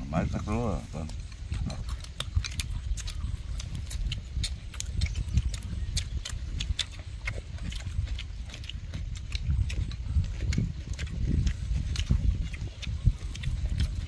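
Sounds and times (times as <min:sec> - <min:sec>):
chewing and lip-smacking: 0:00.0 - 0:14.0
steady low rumble: 0:00.0 - 0:14.0.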